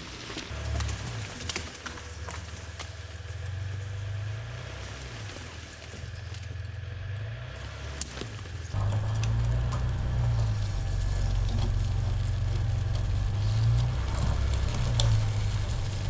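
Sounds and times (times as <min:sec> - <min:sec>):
vehicle engine running: 0:00.4 - 0:16.0.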